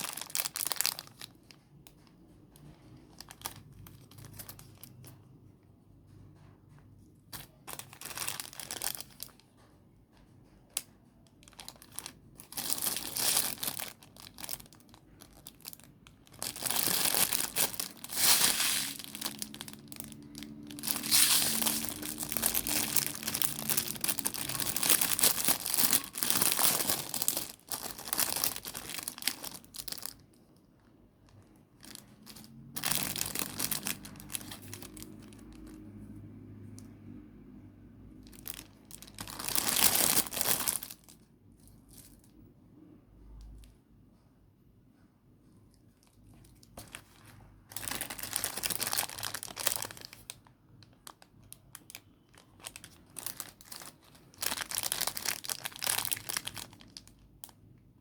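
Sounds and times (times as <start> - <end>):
packaging crinkling and tearing: 0.0 - 5.2, 7.3 - 9.7, 10.4 - 30.4, 31.2 - 35.8, 38.1 - 41.2, 46.0 - 57.6.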